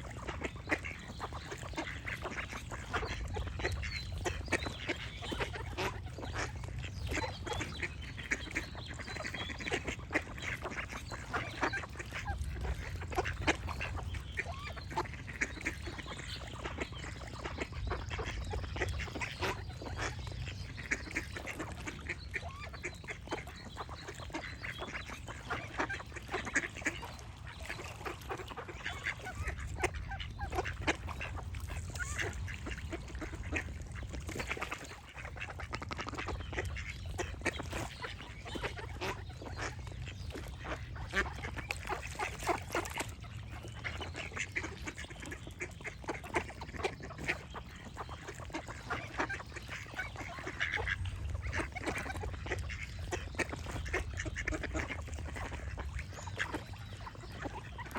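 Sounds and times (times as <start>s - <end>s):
ducks quacking: 0.0s - 57.9s.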